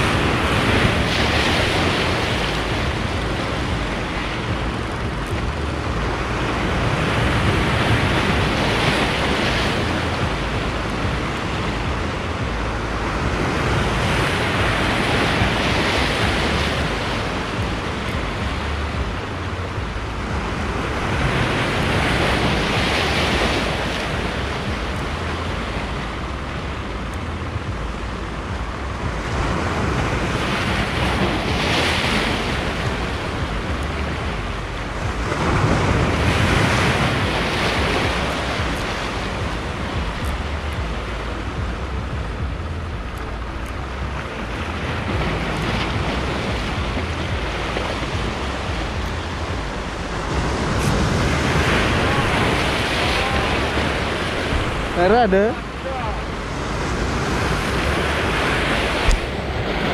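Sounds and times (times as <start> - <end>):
waves breaking on rocks: 0.0 - 59.9.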